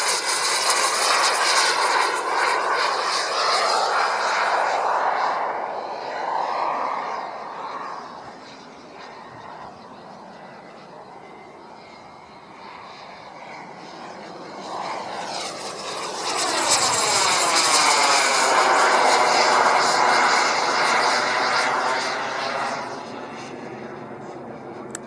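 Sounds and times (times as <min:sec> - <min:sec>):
model jet engine rushing: 0:00.0 - 0:25.0.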